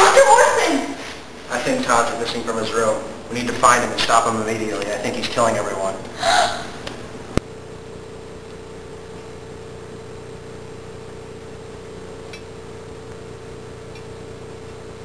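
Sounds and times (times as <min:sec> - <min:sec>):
steady mid-low hum: 0:00.0 - 0:15.0.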